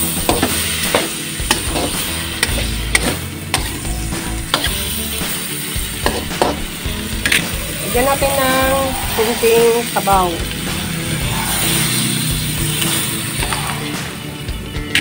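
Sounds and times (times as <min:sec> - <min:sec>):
food sizzling: 0:00.0 - 0:15.0
utensil scraping frying pan: 0:00.0 - 0:15.0.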